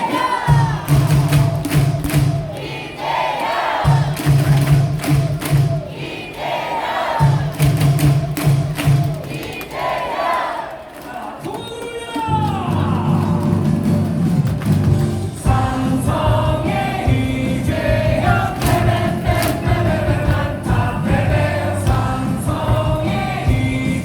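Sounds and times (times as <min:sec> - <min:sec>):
crowd singing in unison: 0:00.0 - 0:11.5, 0:15.2 - 0:24.0
amplified cheer music with beat: 0:00.0 - 0:24.0.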